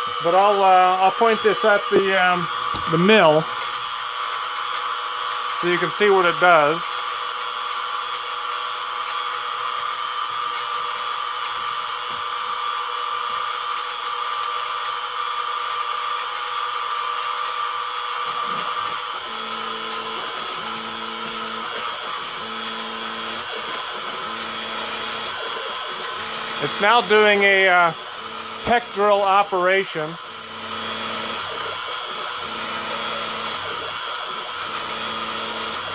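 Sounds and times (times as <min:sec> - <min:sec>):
axis motors humming: 0:00.0 - 0:35.9
mill spindle whine: 0:00.0 - 0:35.9.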